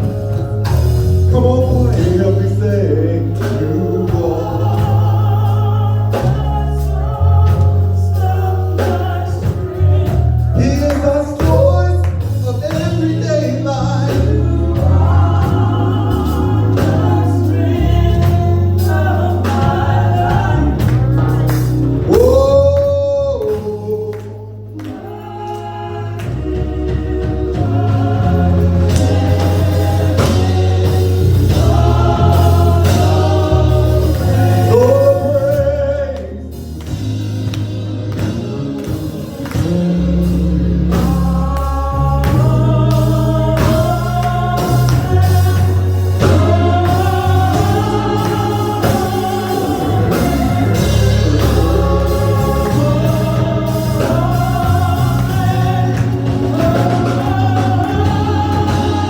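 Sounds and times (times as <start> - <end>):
instrumental backing with bass: 0.0 - 59.0
voices singing gospel: 0.0 - 59.0.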